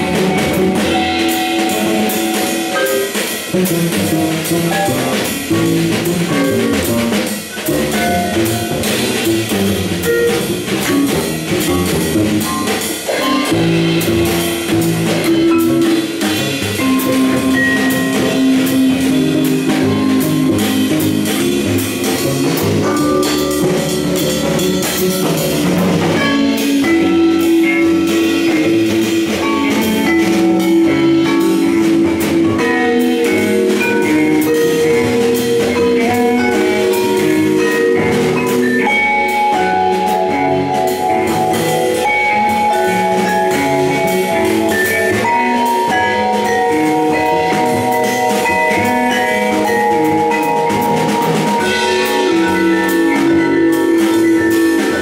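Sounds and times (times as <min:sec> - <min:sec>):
double bass: 0:00.0 - 0:55.0
drum kit with busy cymbals: 0:00.0 - 0:55.0
vibraphone: 0:00.0 - 0:55.0.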